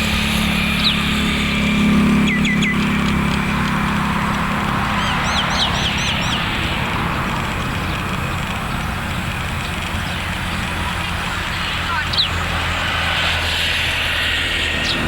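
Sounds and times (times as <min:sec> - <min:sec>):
passing vehicle traffic: 0:00.0 - 0:15.0
bird chirping: 0:00.4 - 0:13.6, 0:14.6 - 0:15.0.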